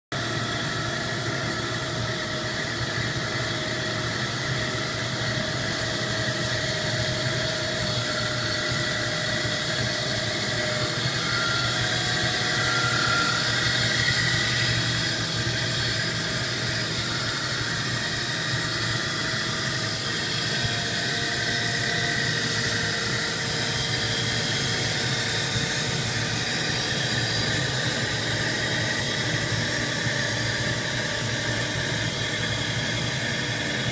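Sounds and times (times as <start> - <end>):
lathe machining whir: 0.2 - 33.9
whining machine tones: 0.2 - 33.9.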